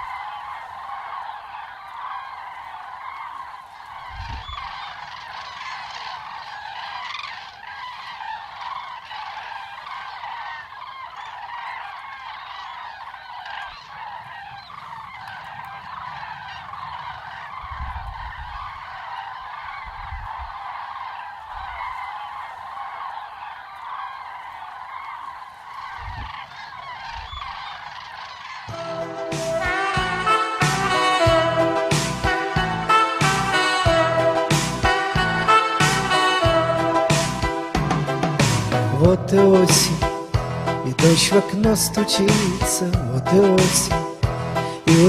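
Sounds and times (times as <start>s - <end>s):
flock of birds honking: 0.0s - 45.0s.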